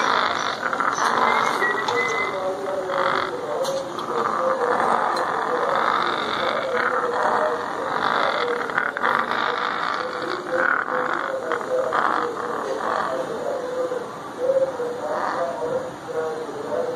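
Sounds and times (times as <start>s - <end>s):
parrots calling low notes: 0.0s - 16.9s.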